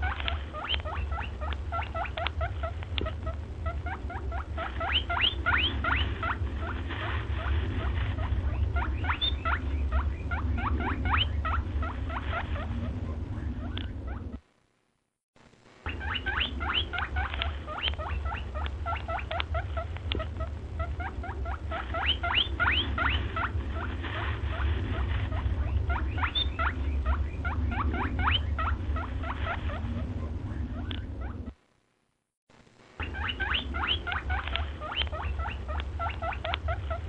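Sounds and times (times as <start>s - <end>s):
small animal squeaking: 0.0s - 14.4s, 15.9s - 31.6s, 33.0s - 37.0s
steady low rumble: 0.0s - 37.0s.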